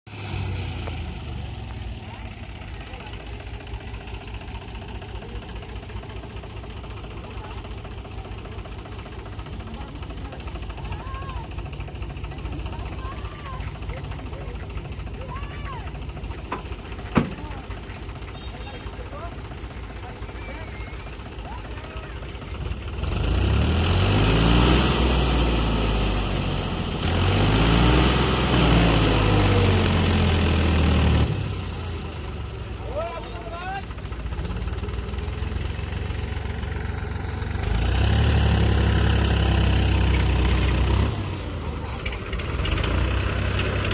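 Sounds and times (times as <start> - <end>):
tractor diesel engine chugging: 0.1 - 43.9.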